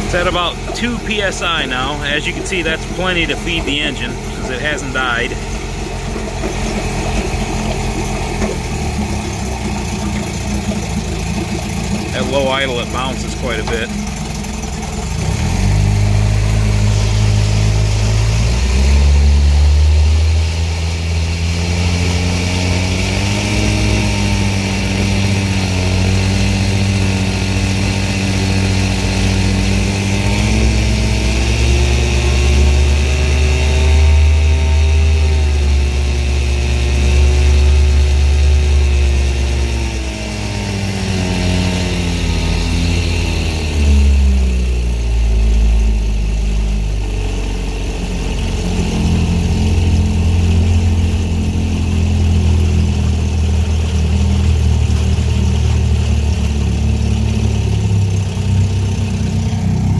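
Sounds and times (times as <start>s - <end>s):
outboard engine running: 0.0s - 59.9s.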